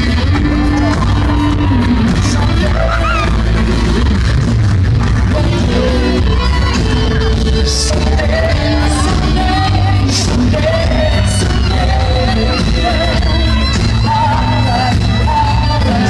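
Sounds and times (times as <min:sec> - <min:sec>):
bass guitar: 0:00.0 - 0:16.0
drums: 0:00.0 - 0:16.0
electric guitars: 0:00.0 - 0:16.0
keyboards: 0:00.0 - 0:16.0
man singing lead vocals: 0:00.0 - 0:16.0.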